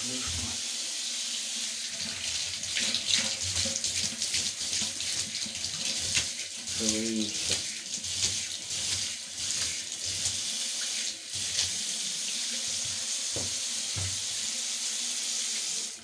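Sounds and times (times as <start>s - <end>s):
tap water running into bathtub: 0.0s - 16.0s.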